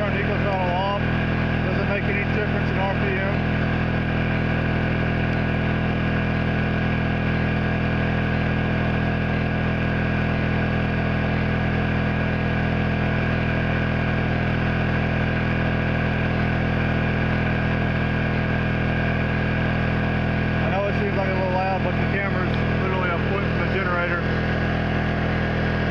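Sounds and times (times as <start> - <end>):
generator engine running: 0.0 - 25.9.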